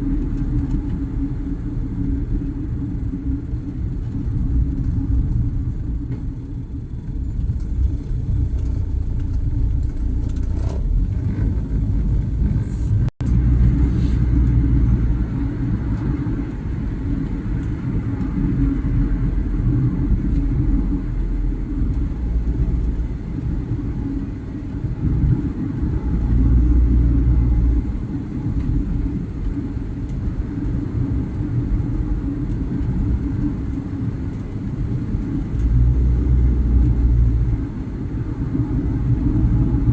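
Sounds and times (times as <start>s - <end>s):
vehicle road and engine rumble: 0.0s - 39.9s.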